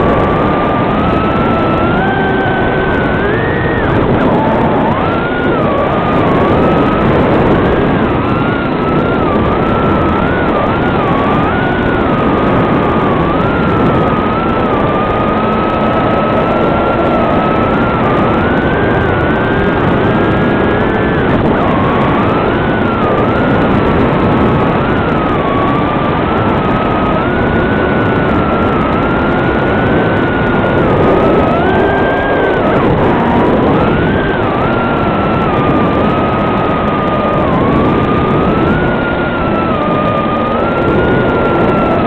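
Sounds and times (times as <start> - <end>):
quadcopter propellers buzzing: 0.0 - 42.0.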